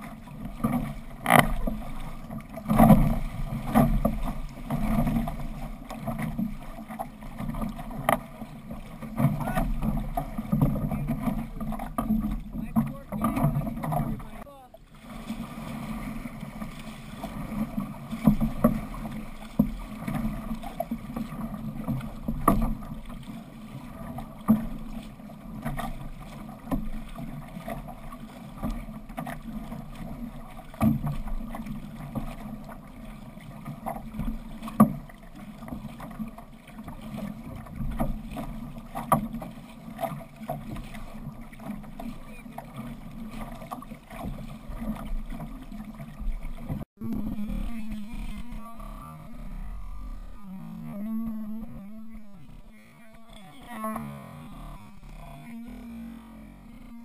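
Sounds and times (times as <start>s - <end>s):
paddle slaps and splashes: 0.0s - 49.7s
water rushing along canoe hull: 0.0s - 57.0s.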